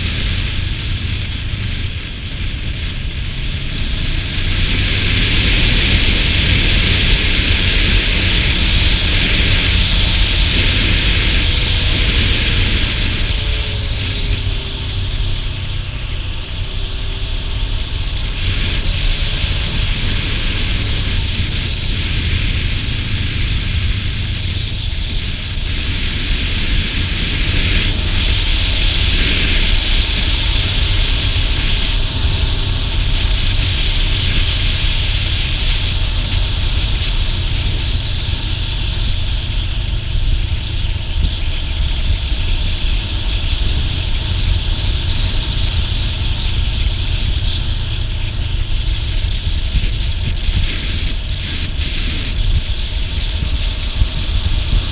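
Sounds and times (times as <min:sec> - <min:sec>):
motorbike engine: 0:00.0 - 0:54.9
wind rushing over microphone: 0:00.0 - 0:54.9.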